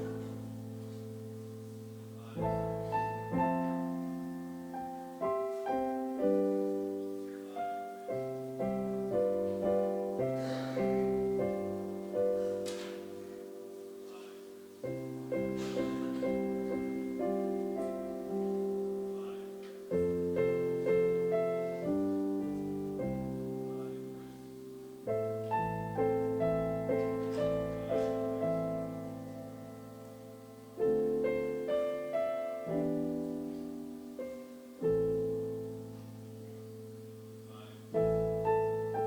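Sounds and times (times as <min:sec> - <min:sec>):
slow piano chords: 0:00.0 - 0:39.0.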